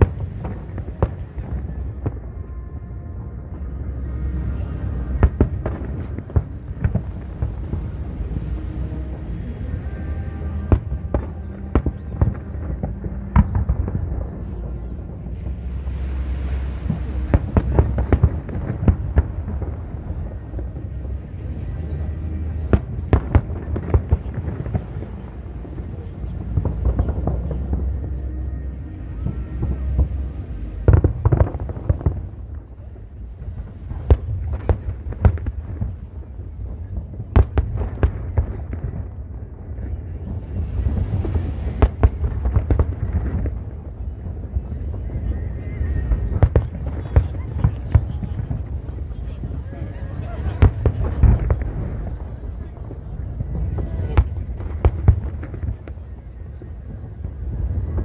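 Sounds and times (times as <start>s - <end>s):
fireworks bangs: 0.0s - 58.0s
steady low rumble: 0.0s - 58.0s.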